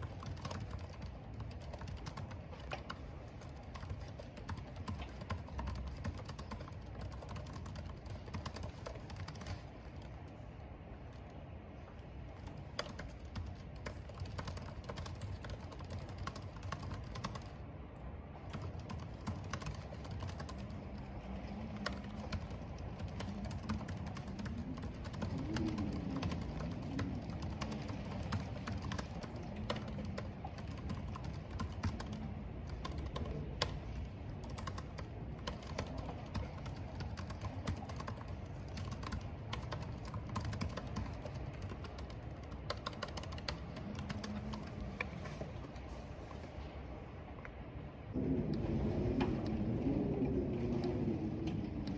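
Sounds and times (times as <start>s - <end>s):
keyboard typing clicks: 0.0s - 10.4s, 12.3s - 17.6s, 18.4s - 20.8s, 21.8s - 45.9s
wind and rain rumble: 0.0s - 51.9s.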